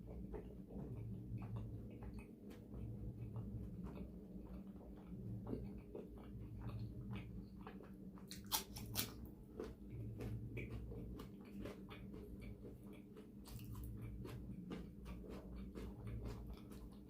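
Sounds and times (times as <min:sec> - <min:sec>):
person chewing with wet mouth sounds: 0:00.0 - 0:17.0
steady low hum: 0:00.0 - 0:17.0.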